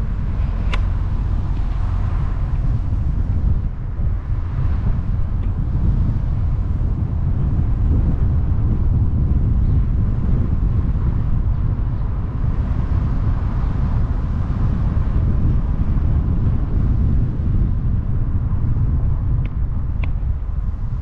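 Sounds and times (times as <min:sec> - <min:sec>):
road and tyre rumble: 0:00.0 - 0:21.0
wind buffeting microphone: 0:00.0 - 0:21.0.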